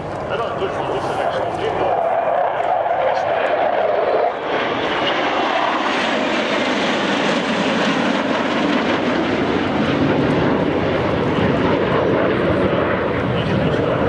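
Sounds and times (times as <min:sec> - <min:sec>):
fighter jets flying past: 0:00.0 - 0:14.0.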